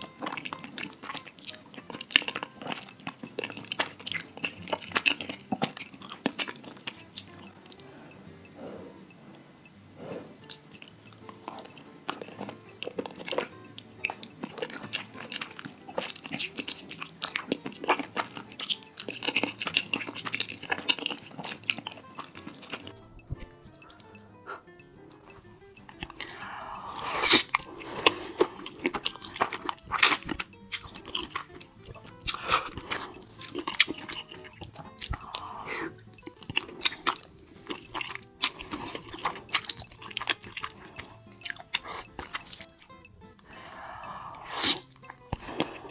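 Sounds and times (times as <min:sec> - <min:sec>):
wet chewing clicks: 0:00.0 - 0:45.9
wet mouth noises: 0:00.0 - 0:45.9.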